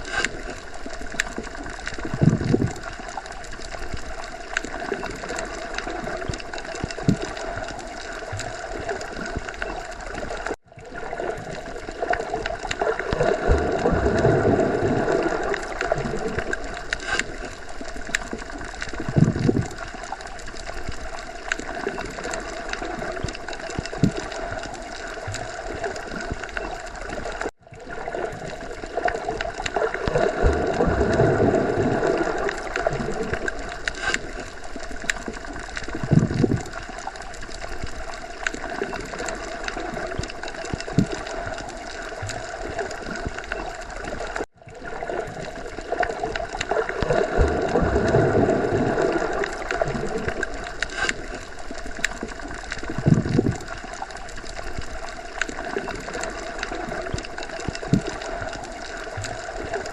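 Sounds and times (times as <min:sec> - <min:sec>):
muffled underwater water wash: 0:00.0 - 0:59.9
water gurgles: 0:00.0 - 0:59.9.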